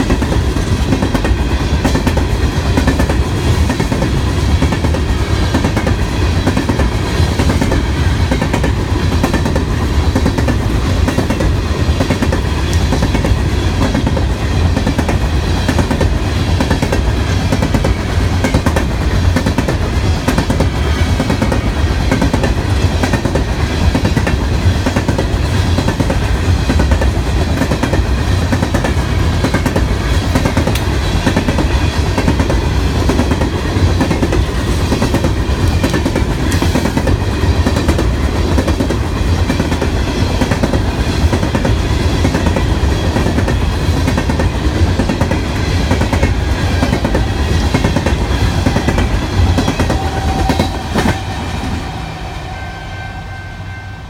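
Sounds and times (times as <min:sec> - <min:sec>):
steel wheels rumbling on rails: 0:00.0 - 0:54.0.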